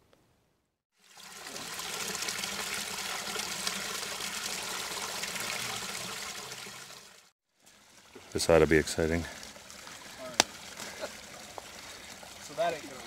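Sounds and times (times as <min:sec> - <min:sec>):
stream water trickling and splashing: 0:00.9 - 0:13.0.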